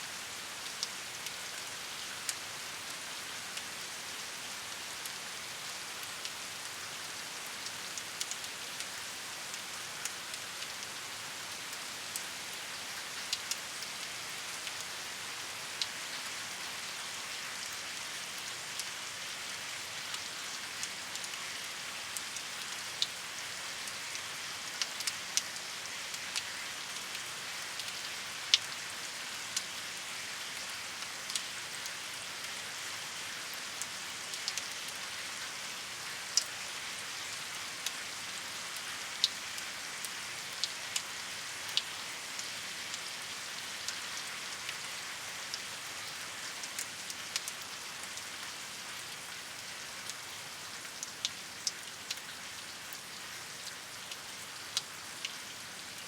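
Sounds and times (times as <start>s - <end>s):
steady rain falling: 0.0s - 56.0s
raindrops ticking on surface: 0.2s - 56.0s.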